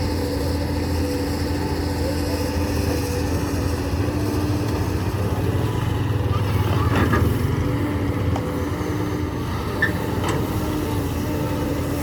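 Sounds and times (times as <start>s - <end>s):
diesel engine of heavy machinery: 0.0s - 12.0s.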